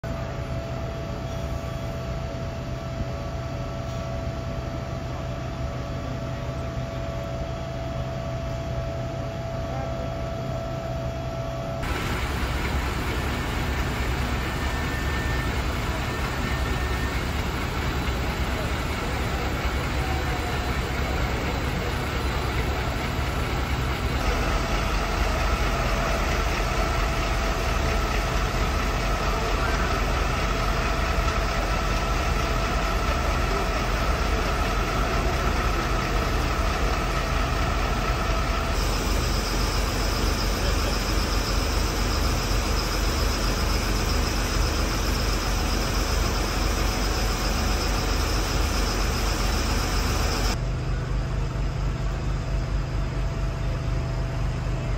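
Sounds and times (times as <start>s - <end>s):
diesel engines idling: 0.0s - 54.9s
steady whine: 0.0s - 54.9s.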